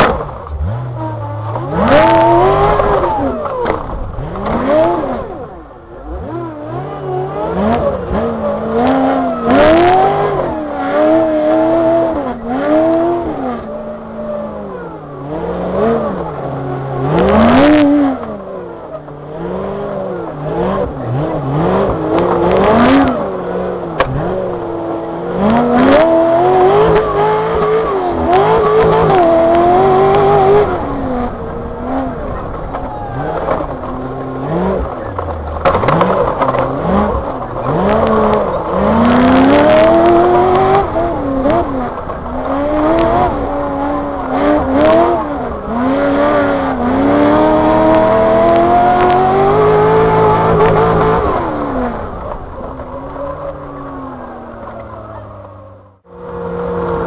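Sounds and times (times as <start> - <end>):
buggy engine revving: 0.0 - 57.0.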